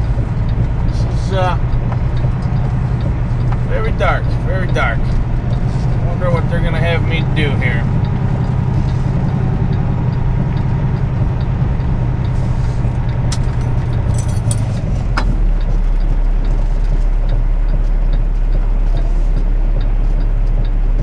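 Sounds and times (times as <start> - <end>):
diesel truck engine: 0.0 - 21.0.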